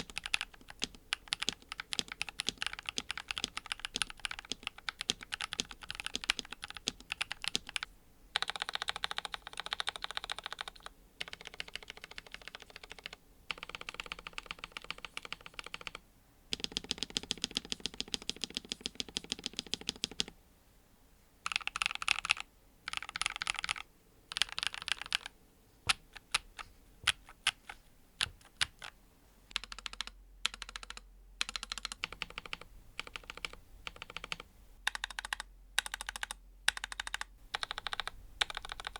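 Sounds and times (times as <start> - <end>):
typing on mechanical keyboard: 0.0 - 20.3, 21.5 - 25.3, 25.9 - 38.9.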